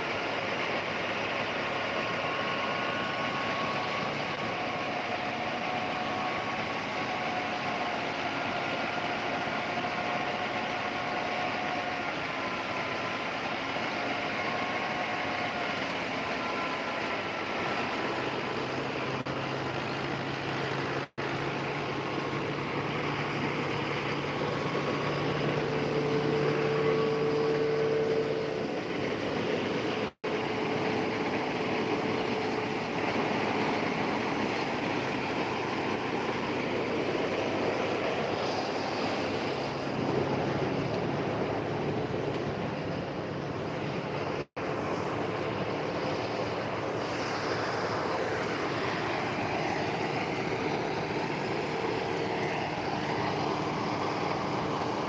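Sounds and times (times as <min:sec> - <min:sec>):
low engine hum: 0:00.0 - 0:55.0
thresher running: 0:00.0 - 0:55.0.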